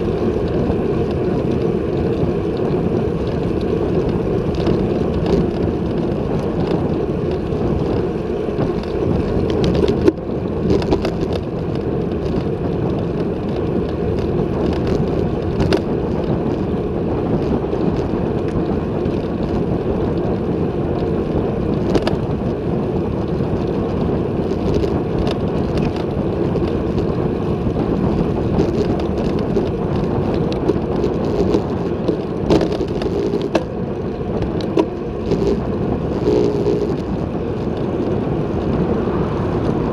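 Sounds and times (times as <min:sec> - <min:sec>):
tyre noise on tarmac: 0:00.0 - 0:39.9
wind rushing over microphone: 0:00.0 - 0:39.9.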